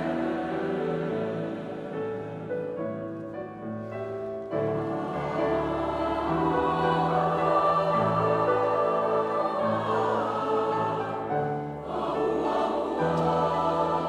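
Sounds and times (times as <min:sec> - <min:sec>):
choir singing held chords: 0:00.0 - 0:03.2, 0:04.5 - 0:14.0.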